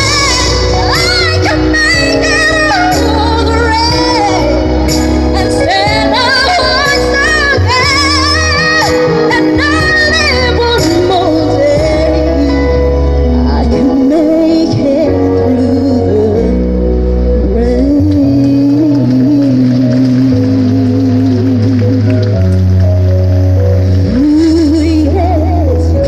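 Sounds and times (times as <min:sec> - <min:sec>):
woman singing pop song: 0:00.0 - 0:22.4, 0:24.0 - 0:26.0
instrumental accompaniment with bass: 0:00.0 - 0:26.0.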